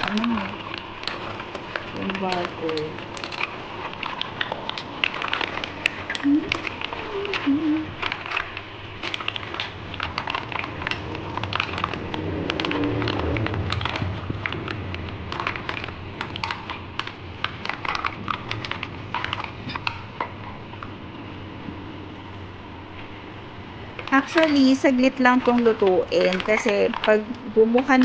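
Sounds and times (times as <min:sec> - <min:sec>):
mussel shells clattering: 0:00.0 - 0:21.5, 0:23.9 - 0:28.0
faint steady hum: 0:00.0 - 0:28.0.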